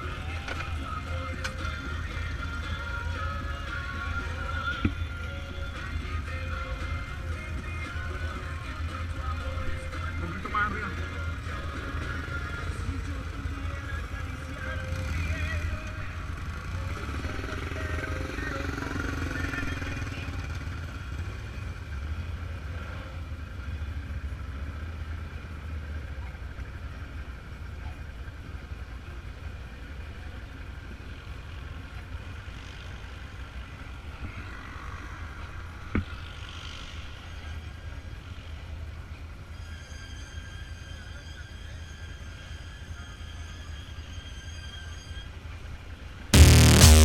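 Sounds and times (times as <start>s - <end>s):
vehicle engine and road noise: 0.0s - 39.6s.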